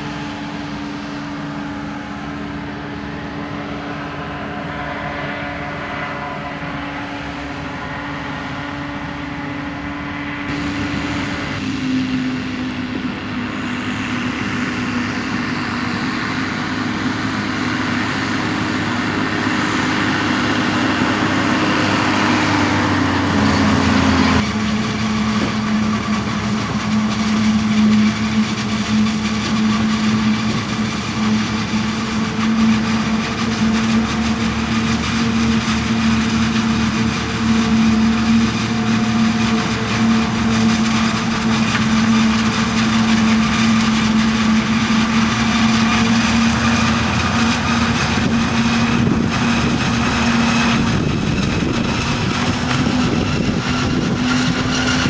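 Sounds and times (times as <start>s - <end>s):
tractors running: 0.0s - 55.0s
forage harvester chopping corn: 10.0s - 55.0s.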